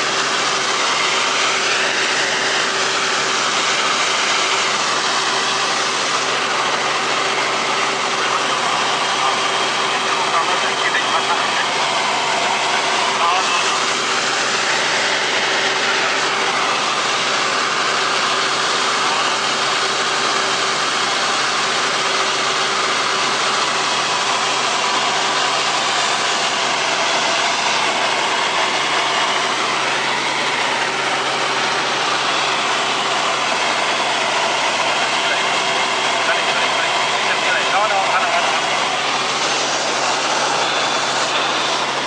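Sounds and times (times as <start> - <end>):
constant low hum: 0.0 - 42.0
helicopter engine and rotor drone: 0.0 - 42.0.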